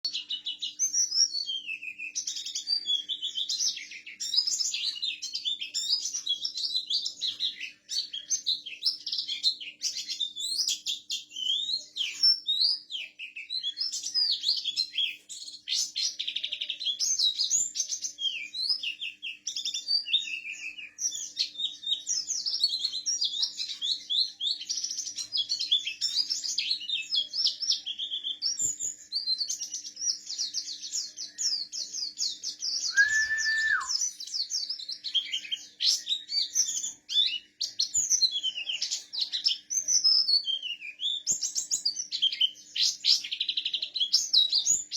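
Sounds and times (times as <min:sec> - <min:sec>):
bird singing rolling chirps: 0:00.0 - 0:44.9.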